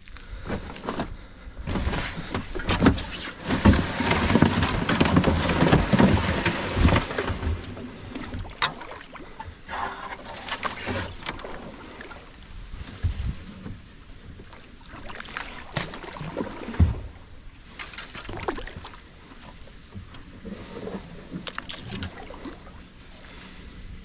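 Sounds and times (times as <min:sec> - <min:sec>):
kayak splashing in water: 0:01.7 - 0:23.6.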